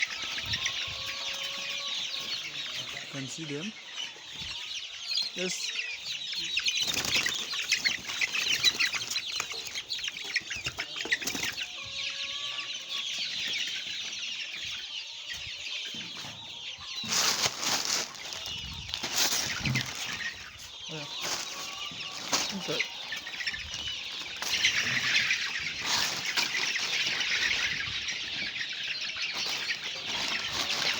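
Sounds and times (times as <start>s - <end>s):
chickens cheeping: 0.0s - 30.9s.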